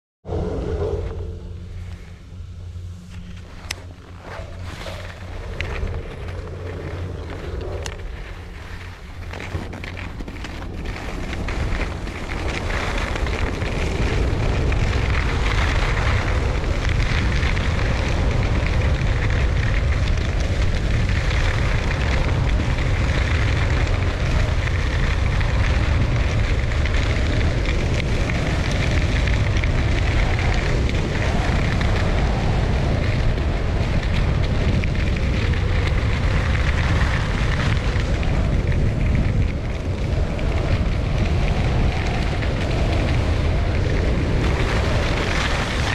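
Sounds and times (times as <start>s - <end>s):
wind rumble on microphone: 0.2s - 45.9s
skis scraping on snow: 2.9s - 45.9s.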